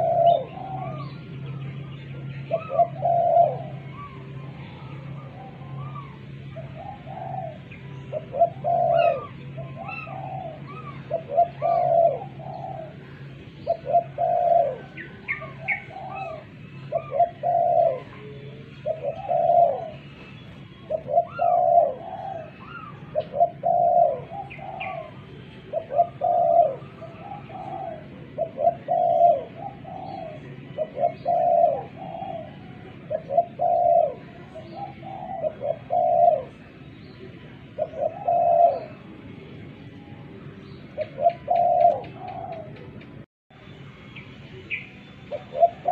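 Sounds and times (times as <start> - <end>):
small birds chirping: 0.0 - 39.1
dove cooing: 0.0 - 39.4, 41.0 - 43.1, 45.3 - 45.9
steady low hum: 0.0 - 45.9.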